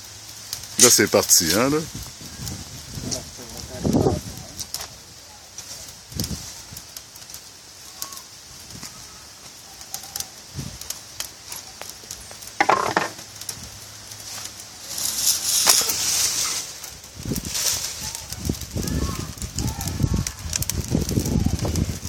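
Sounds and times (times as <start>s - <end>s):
dry leaves rustling: 0.0s - 22.0s
fire crackling and popping: 0.0s - 22.0s.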